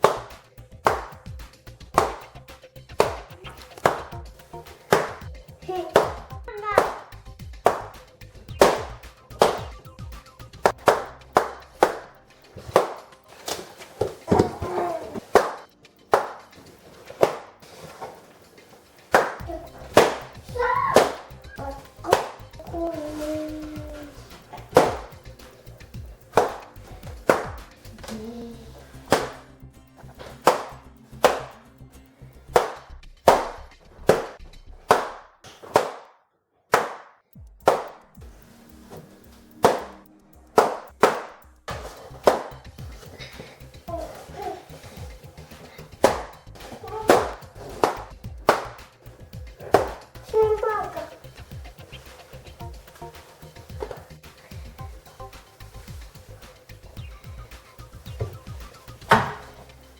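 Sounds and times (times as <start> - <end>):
balloons popping: 0.0 - 31.6, 32.5 - 59.9
background music: 0.0 - 35.9, 36.8 - 59.9.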